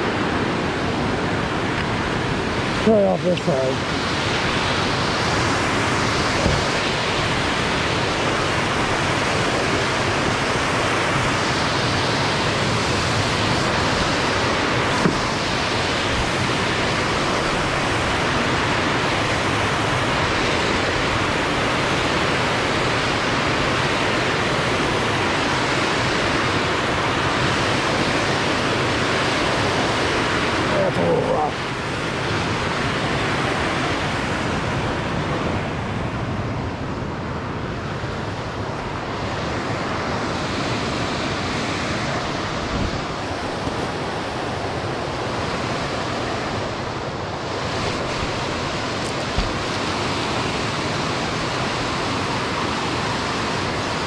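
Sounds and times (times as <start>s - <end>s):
whitewater roaring: 0.0s - 54.0s.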